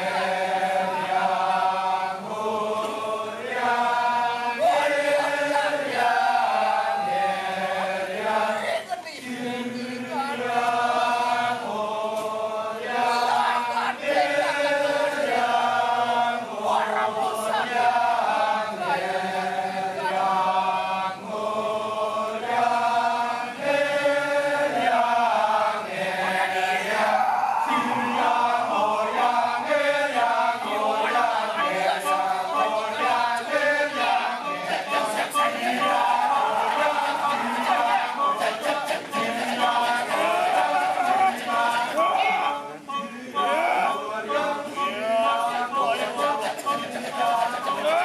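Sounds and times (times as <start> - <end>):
men chanting in chorus: 0.0 - 48.0.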